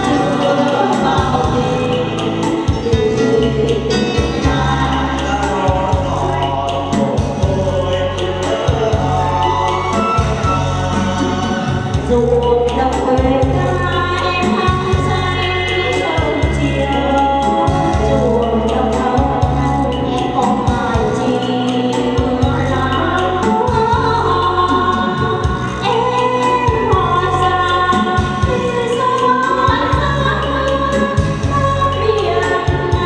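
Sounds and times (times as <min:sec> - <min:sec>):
amplified backing track with bass: 0:00.0 - 0:33.0
women singing into microphones: 0:00.0 - 0:33.0.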